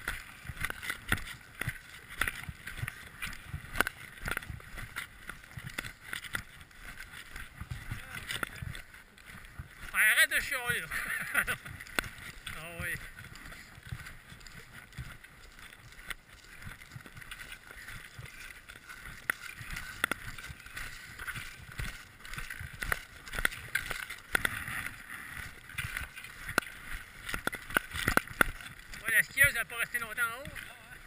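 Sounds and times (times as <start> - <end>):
footsteps crunching through snow: 0.0 - 31.0.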